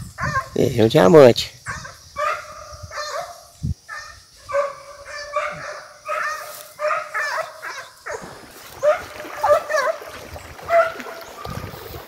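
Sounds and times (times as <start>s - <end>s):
hounds baying: 0.2s - 0.6s, 1.7s - 11.8s.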